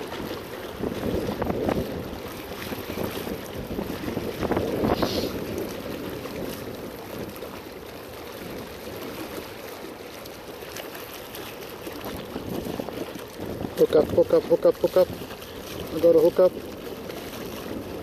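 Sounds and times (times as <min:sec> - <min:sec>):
water lapping and sloshing: 0:00.0 - 0:18.0.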